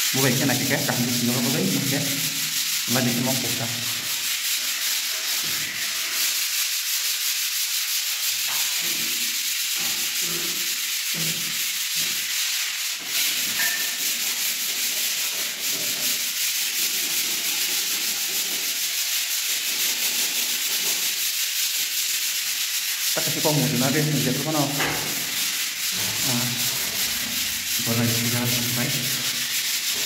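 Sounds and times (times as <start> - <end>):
hand sanding hiss: 0.0 - 30.0.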